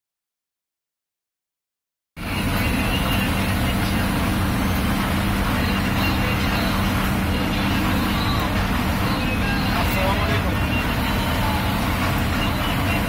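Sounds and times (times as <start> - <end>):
bus engine and road noise: 2.2 - 13.0.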